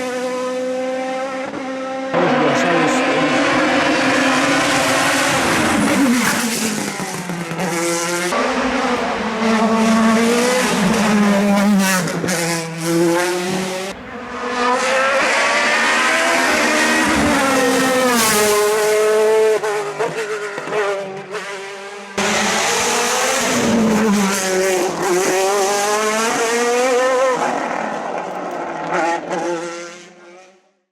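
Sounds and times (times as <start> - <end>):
race car engine revving: 0.0 - 30.5.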